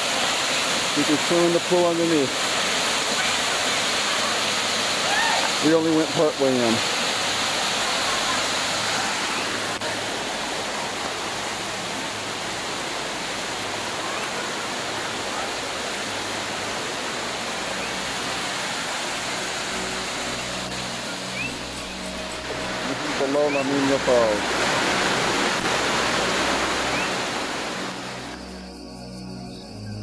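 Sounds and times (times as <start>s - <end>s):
waterfall rushing into pool: 0.0s - 28.4s.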